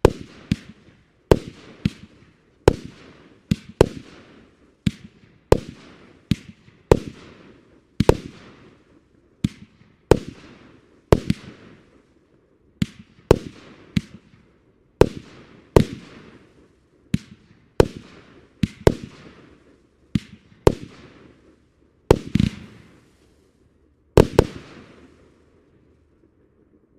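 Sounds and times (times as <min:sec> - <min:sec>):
fireworks bursting with sharp bangs: 0:00.0 - 0:26.8.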